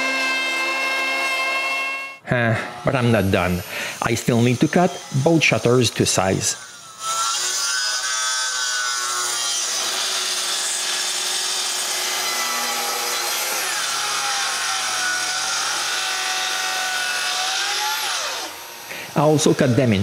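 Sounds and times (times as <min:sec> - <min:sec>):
circular saw cutting wood: 0:00.0 - 0:20.0.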